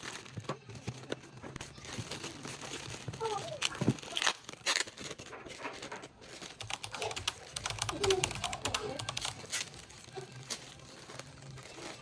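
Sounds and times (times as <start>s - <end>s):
packaging clicks and crackles: 0.0s - 12.0s.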